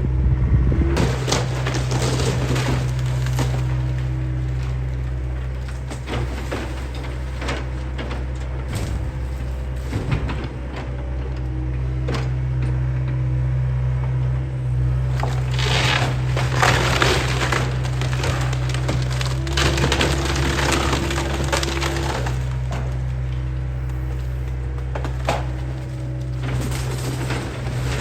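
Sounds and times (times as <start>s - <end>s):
excavator engine running: 0.0s - 28.0s
timber cracking and splintering: 1.0s - 10.8s, 14.8s - 28.0s
wood cracking and knocking: 1.0s - 11.1s, 14.8s - 28.0s.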